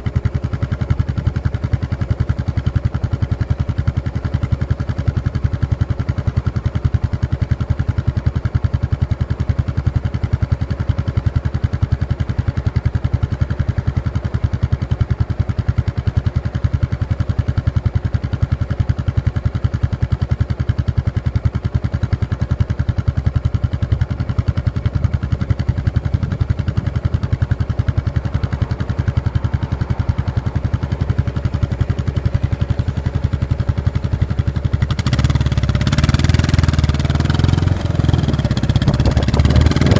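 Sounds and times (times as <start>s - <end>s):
motorcycle exhaust running: 0.0s - 39.9s.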